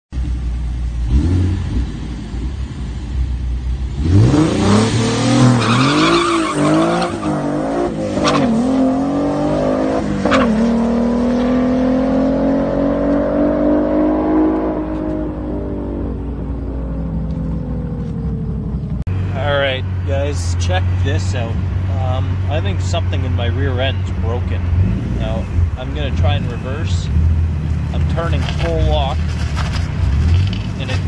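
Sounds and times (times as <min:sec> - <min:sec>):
car engine revving: 0:00.2 - 0:31.0.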